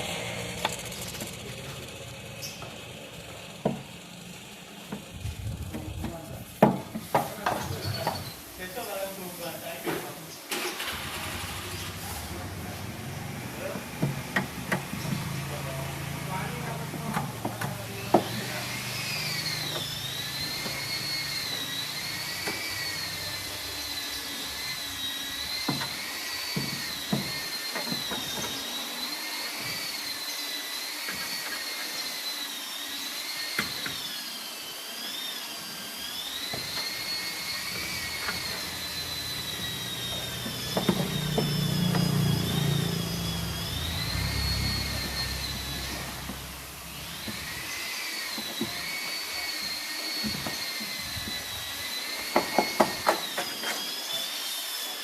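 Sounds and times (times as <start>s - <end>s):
electric motor whining: 0.0s - 9.8s, 10.4s - 55.0s.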